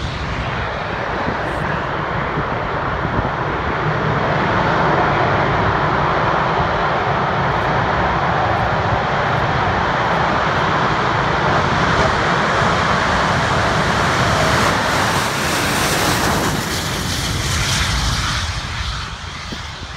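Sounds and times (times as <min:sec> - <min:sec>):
jet fighter roaring: 0:00.0 - 0:19.9.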